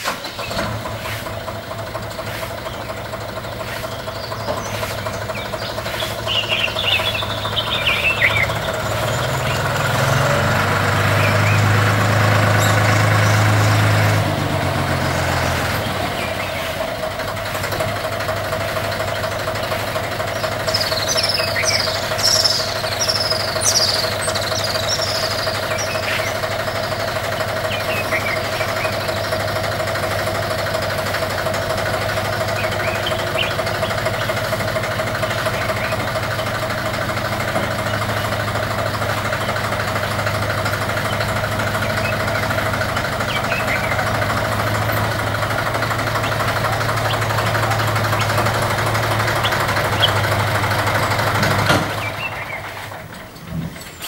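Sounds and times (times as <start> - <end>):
high falling bird chirps: 0.0 - 53.1
steady mechanical hum: 0.0 - 54.0.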